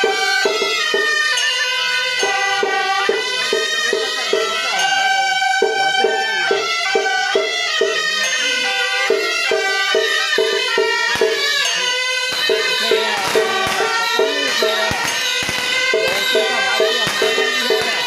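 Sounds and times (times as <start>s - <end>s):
percussion: 0.0s - 18.0s
wind instrument melody: 0.0s - 18.0s.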